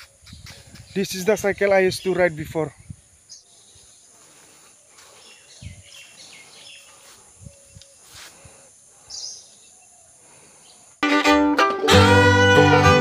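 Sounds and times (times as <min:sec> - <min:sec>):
birds chirping: 0:00.0 - 0:11.0
faint outdoor background noise: 0:00.0 - 0:11.6.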